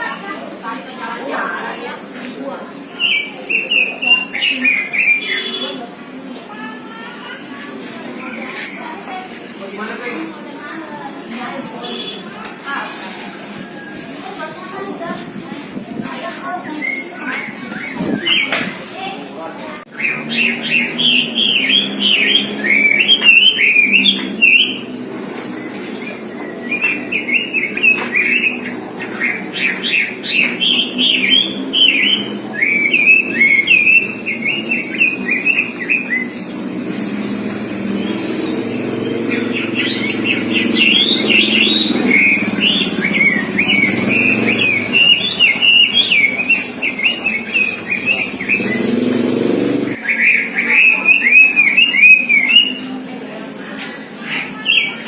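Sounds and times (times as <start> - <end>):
bird singing chattering warble: 0.0 - 55.0.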